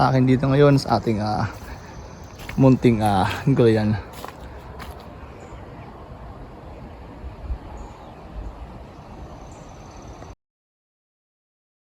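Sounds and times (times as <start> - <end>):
low rumble and hiss: 0.0 - 10.4.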